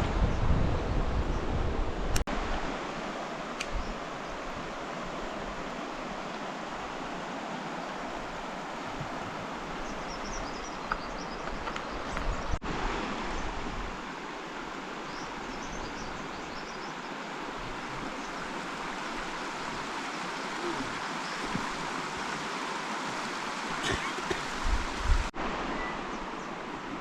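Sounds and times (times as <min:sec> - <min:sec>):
river water rushing: 0:01.9 - 0:27.0.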